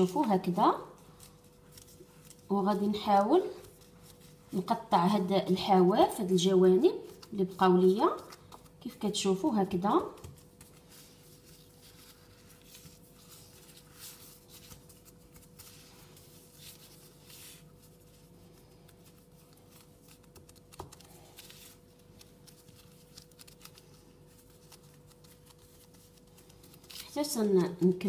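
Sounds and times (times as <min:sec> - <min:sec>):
fingers rustling dough: 0:00.0 - 0:28.0.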